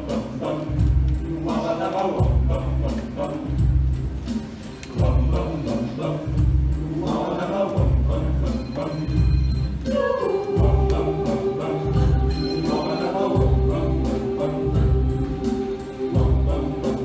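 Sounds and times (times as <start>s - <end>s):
mixed choir singing: 0.0s - 3.8s, 4.8s - 17.0s
pulsing low beat: 2.2s - 4.4s, 5.0s - 17.0s.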